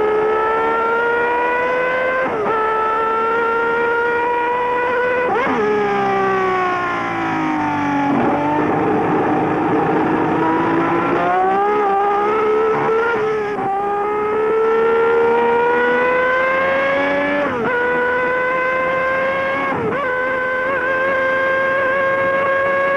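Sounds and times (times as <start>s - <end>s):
racing car engine at high revs: 0.0s - 22.9s.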